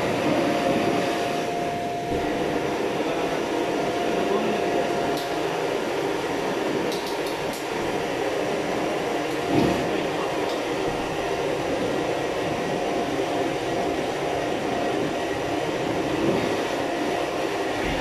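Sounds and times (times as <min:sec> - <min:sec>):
low whoomp of flame flaring: 0:00.0 - 0:06.9, 0:07.6 - 0:18.0
gas burner flame rushing: 0:00.0 - 0:18.0.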